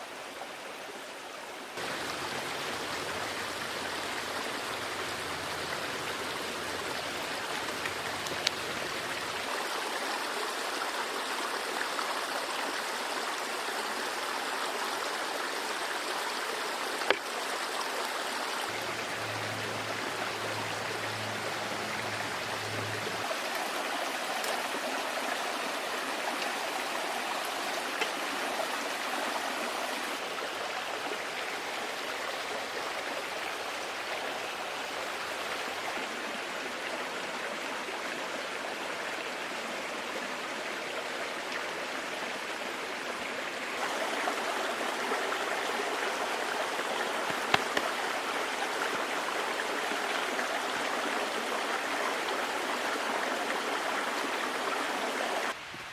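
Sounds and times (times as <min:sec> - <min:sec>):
small brook babbling: 0:00.0 - 0:55.9.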